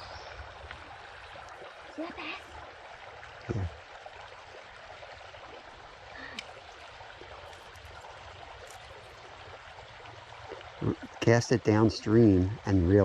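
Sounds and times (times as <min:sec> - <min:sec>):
stream flowing: 0:00.0 - 0:13.0.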